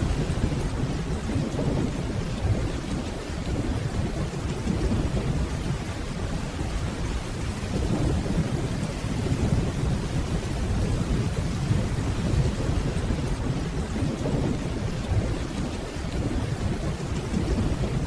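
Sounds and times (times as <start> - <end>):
distant thunder rumble: 0.0 - 18.0
steady rainfall: 0.0 - 18.0.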